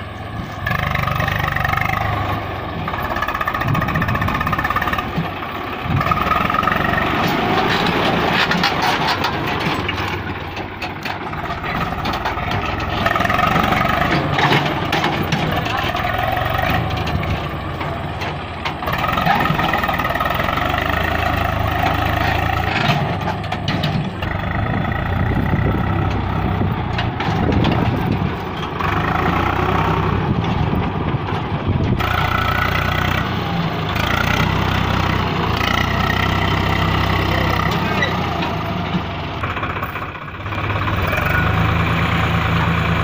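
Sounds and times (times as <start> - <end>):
tractor diesel engine under load: 0.0 - 43.0.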